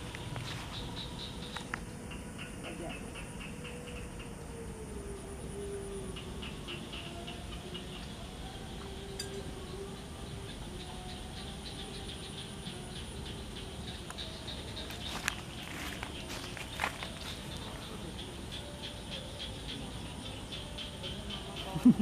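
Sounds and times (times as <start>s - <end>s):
faint high whine: 0.0s - 22.0s
faint wavering hum: 0.0s - 22.0s.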